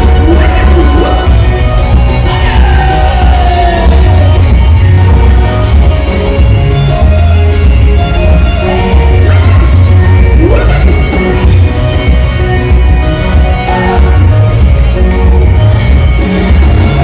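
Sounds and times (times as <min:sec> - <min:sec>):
heavy bass beat: 0:00.0 - 0:17.0
worship band playing: 0:00.0 - 0:17.0.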